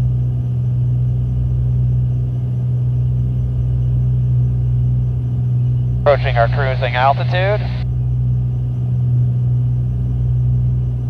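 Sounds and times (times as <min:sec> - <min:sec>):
aircraft cabin engine drone: 0:00.0 - 0:11.0.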